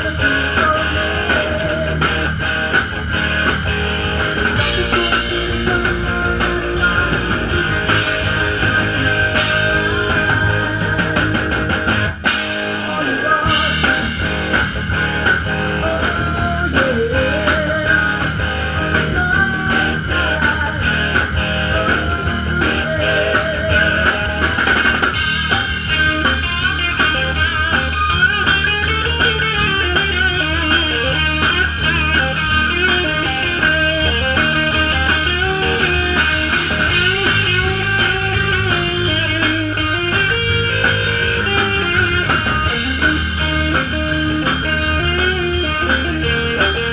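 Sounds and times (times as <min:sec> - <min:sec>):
electric guitar: 0:00.0 - 0:46.9
rock band playing: 0:00.0 - 0:46.9.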